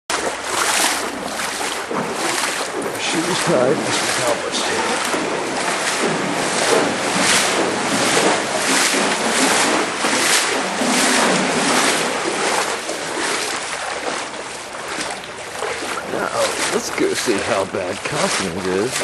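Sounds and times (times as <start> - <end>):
floodwater sloshing and rushing: 0.1 - 19.0.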